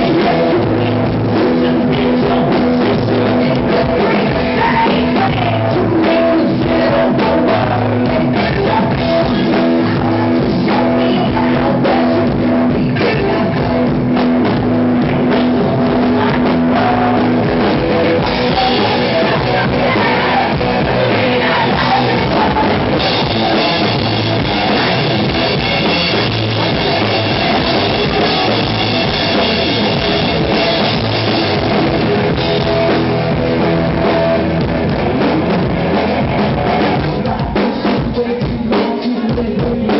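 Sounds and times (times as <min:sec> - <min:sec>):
bass guitar: 0:00.0 - 0:39.9
drum kit: 0:00.0 - 0:39.9
electric guitar: 0:00.0 - 0:39.9
person singing: 0:00.0 - 0:39.9.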